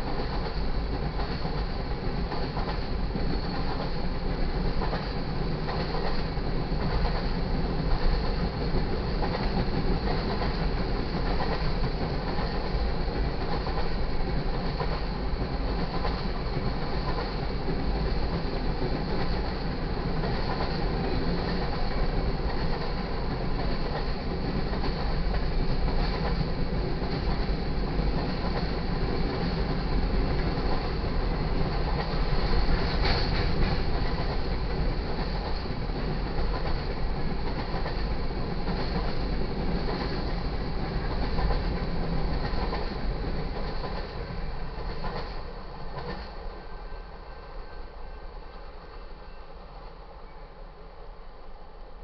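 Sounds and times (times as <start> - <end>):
freight train wheels on rails: 0.0 - 52.0.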